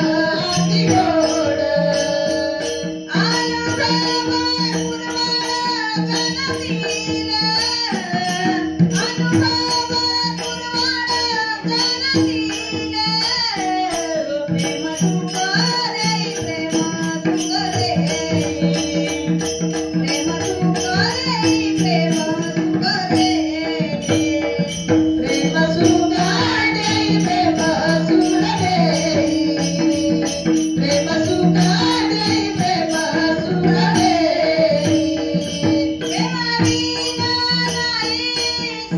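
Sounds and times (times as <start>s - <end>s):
group singing: 0.0s - 13.0s, 15.0s - 38.9s
jingling percussion: 0.0s - 38.9s.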